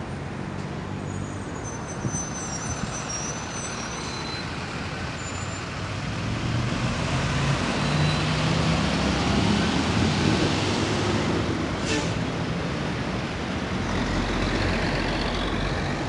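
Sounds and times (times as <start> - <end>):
bus engine approaching: 0.0 - 16.0
passing cars: 0.0 - 16.0.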